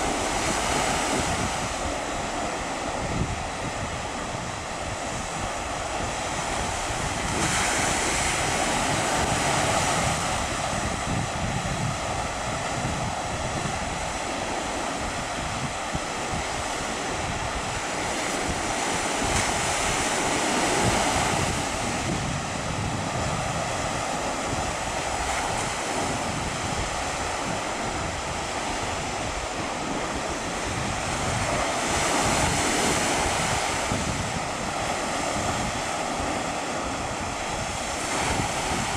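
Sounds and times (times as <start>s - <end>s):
waves washing in: 0.0s - 38.9s.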